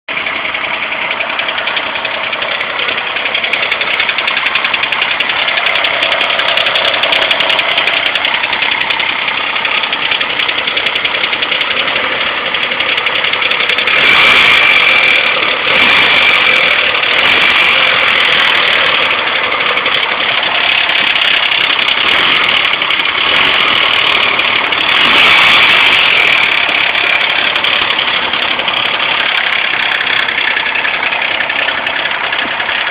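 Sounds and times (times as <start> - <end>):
car engine misfiring: 0.1 - 32.9.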